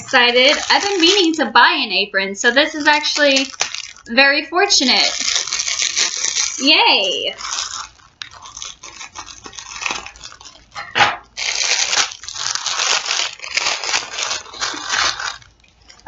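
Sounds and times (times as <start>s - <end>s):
plastic packaging crinkling: 0.0s - 1.7s, 2.4s - 16.0s.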